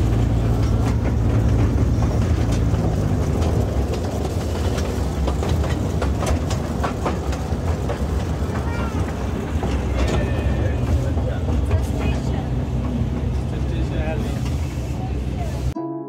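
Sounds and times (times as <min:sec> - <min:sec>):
wheels clicking on rails: 0:00.0 - 0:15.8.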